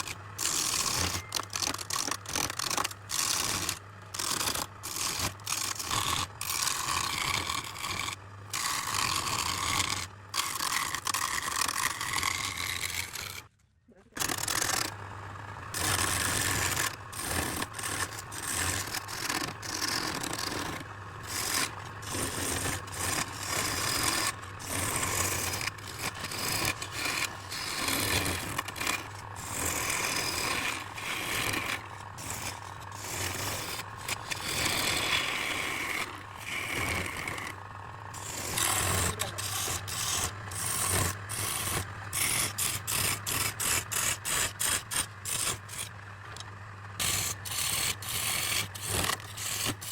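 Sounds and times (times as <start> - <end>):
wood scraping on a lathe: 0.0 - 13.5, 14.1 - 49.9
steady low hum: 0.0 - 49.9.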